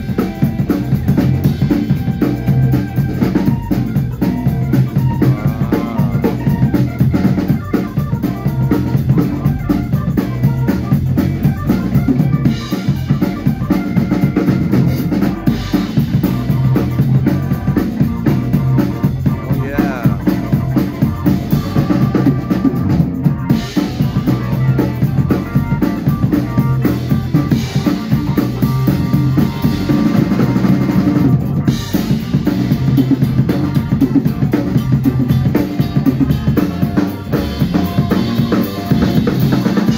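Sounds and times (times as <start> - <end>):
band music: 0.0 - 39.9
drum kit beat: 0.0 - 39.9.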